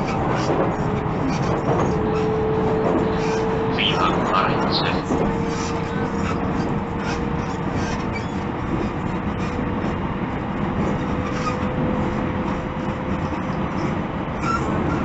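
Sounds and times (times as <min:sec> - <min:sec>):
electric train rumble with whine: 0:00.0 - 0:15.0.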